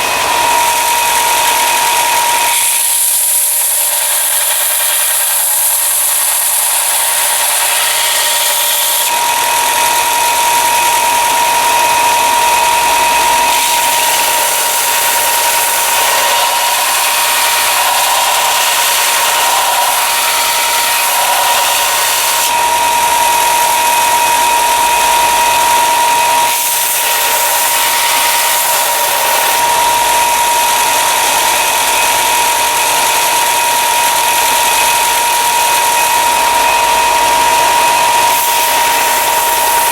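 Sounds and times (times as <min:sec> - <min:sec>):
electric sander grinding steel: 0:00.0 - 0:39.9.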